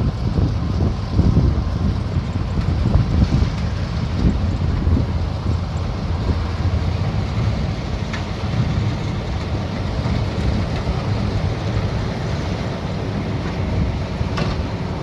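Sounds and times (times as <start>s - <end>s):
combine harvester rumble: 0.0s - 15.0s.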